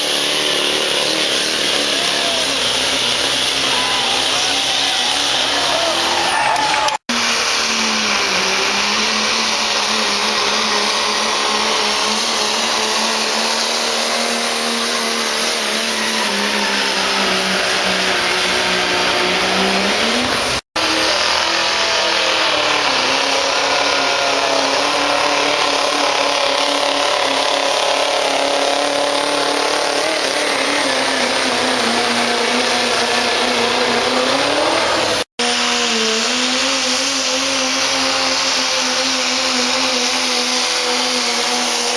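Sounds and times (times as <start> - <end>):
diesel truck engine at full throttle: 0.0 - 41.9.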